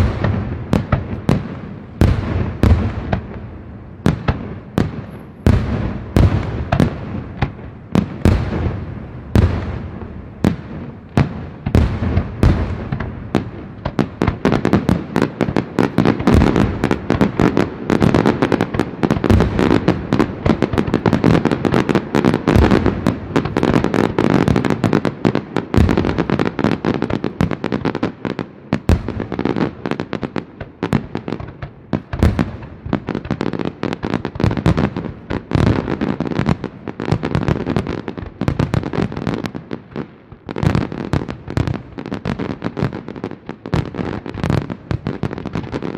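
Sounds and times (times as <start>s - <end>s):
fireworks barrage bangs and crackle: 0.0s - 45.9s
fireworks bursts: 0.0s - 45.9s.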